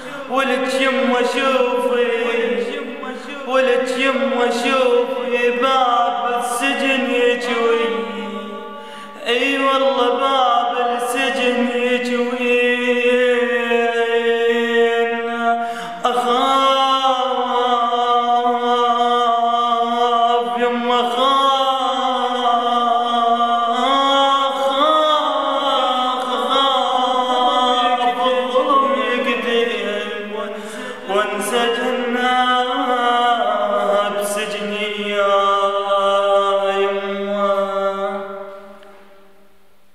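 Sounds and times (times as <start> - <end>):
man singing ornamented notes: 0.0 - 39.4.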